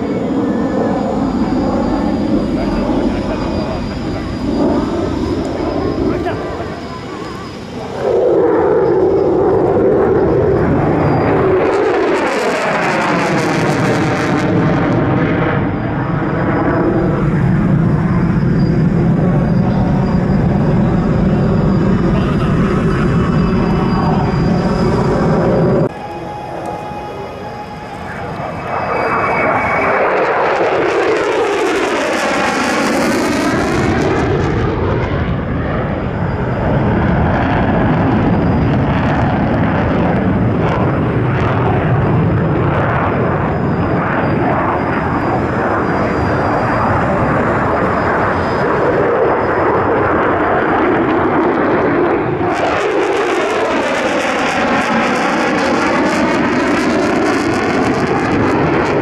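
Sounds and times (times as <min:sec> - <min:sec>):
fighter jet noise: 0:00.0 - 0:59.0.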